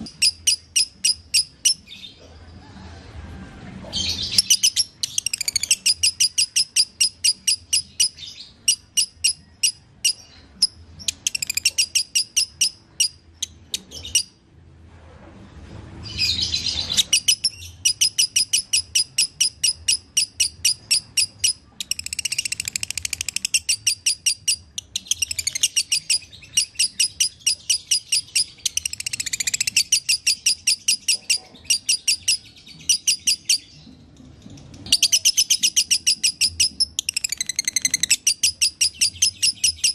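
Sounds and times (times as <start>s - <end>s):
lovebird chattering song: 0.0s - 2.2s, 4.0s - 14.4s, 16.4s - 33.9s, 34.8s - 39.9s.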